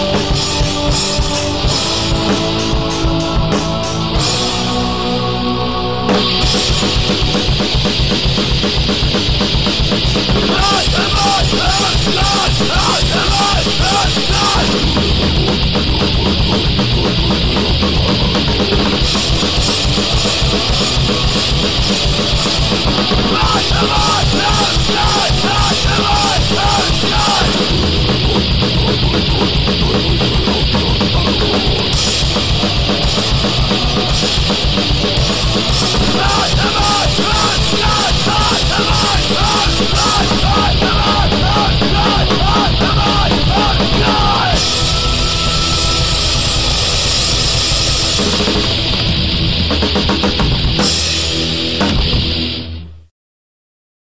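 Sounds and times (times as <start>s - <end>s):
drum kit: 0.0s - 52.9s
distorted electric guitar: 0.0s - 53.1s.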